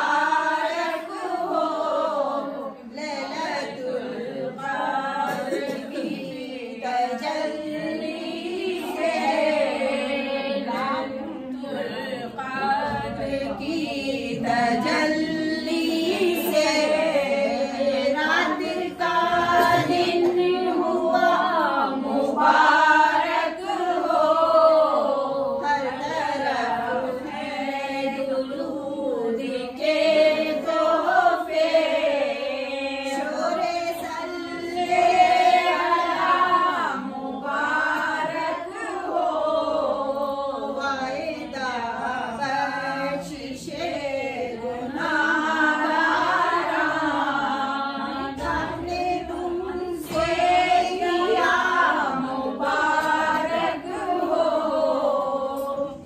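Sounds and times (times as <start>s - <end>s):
women chanting together: 0.0s - 56.0s.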